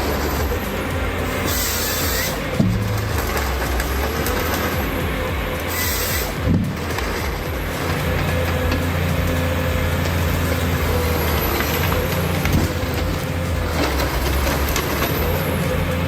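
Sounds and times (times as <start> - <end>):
heavy machine engine droning: 0.0 - 16.0
steady whine: 0.0 - 16.0.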